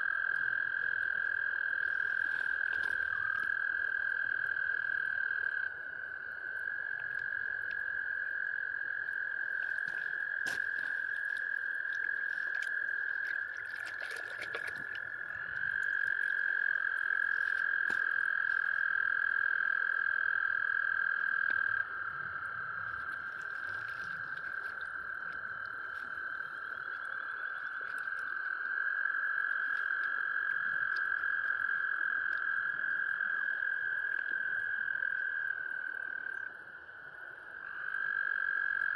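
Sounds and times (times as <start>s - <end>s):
frogs trilling: 0.0s - 38.9s.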